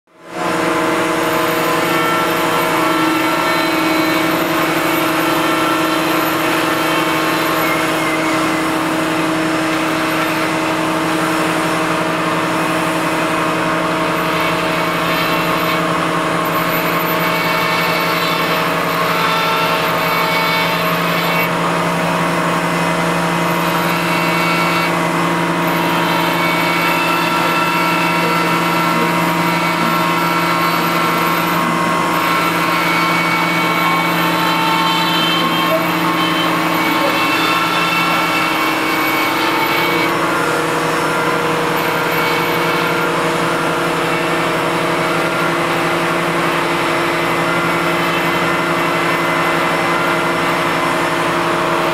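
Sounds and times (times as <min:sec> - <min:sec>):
die grinder grinding marble: 0:00.3 - 0:51.9.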